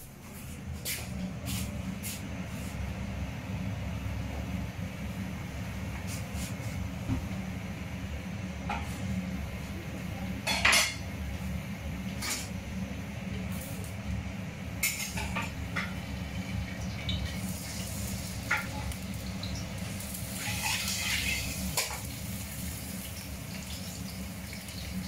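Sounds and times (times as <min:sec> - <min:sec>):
steady low hum: 0:00.0 - 0:23.6.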